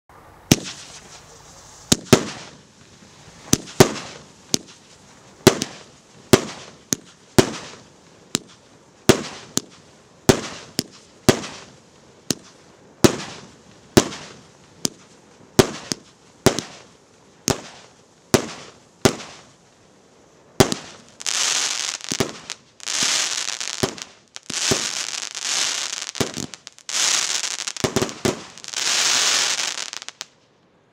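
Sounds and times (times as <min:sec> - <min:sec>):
fireworks bangs: 0:00.1 - 0:19.6, 0:20.6 - 0:30.3
fireworks crackling: 0:00.1 - 0:30.5.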